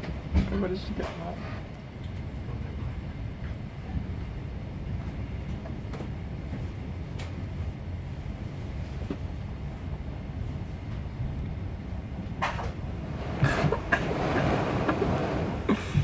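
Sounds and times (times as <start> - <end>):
train coach rumble from inside: 0.0 - 16.0.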